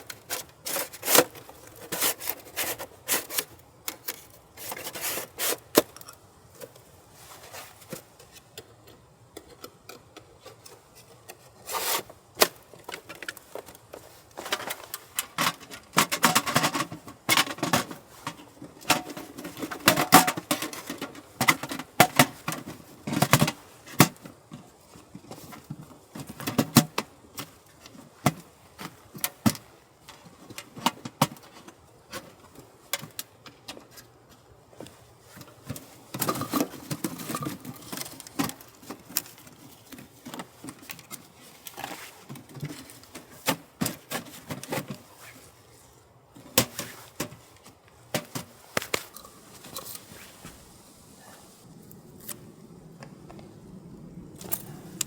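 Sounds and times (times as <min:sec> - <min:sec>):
camping gear clinking and knocking: 0:00.0 - 0:45.5, 0:46.3 - 0:50.8, 0:54.3 - 0:55.0.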